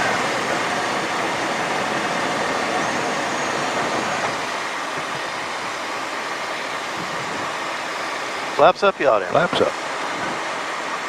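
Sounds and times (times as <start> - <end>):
jet engines and airflow rushing: 0.0 - 11.0.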